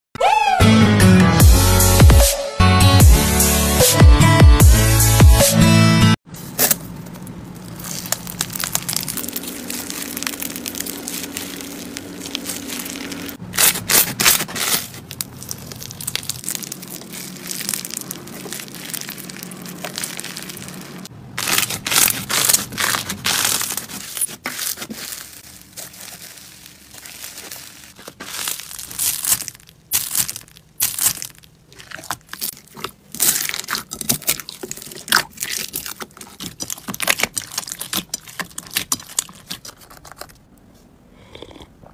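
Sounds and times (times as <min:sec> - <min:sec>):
slime crackling and crunching: 0:06.5 - 0:40.5.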